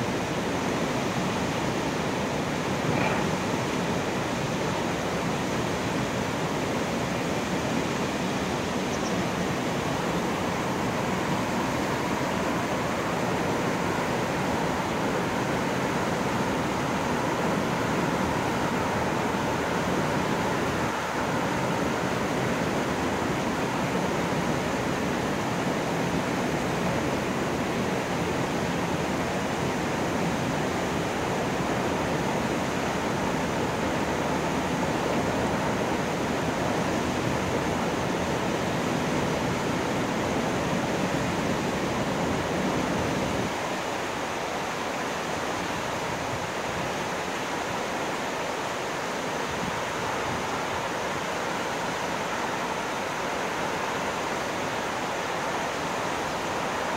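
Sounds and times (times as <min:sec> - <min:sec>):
water rushing through sluice gates: 0:00.0 - 0:56.9.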